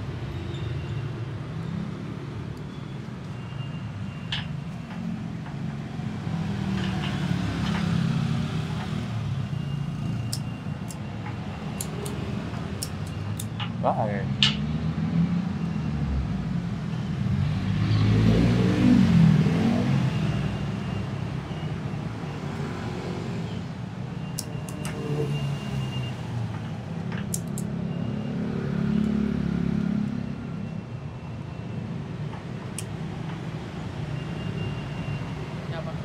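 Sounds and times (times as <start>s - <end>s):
vehicles passing by: 0.0s - 36.0s.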